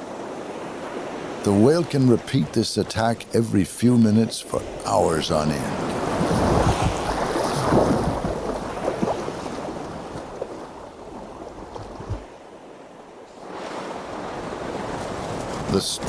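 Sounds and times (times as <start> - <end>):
ocean water churning and splashing: 0.0 - 16.0.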